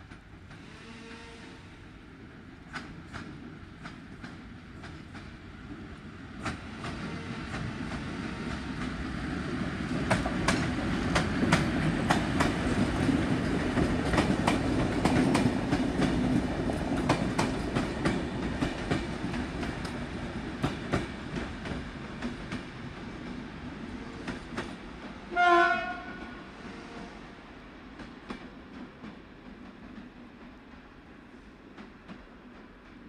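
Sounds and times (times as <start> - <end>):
train rumbling past: 0.0 - 33.0.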